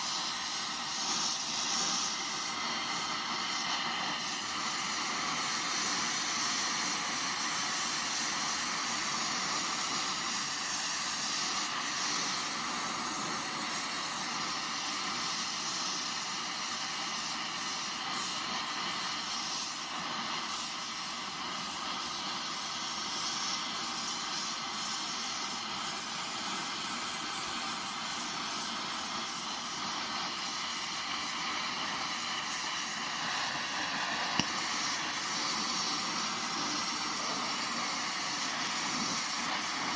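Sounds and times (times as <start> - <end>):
blow torch flame hissing: 0.0 - 39.9.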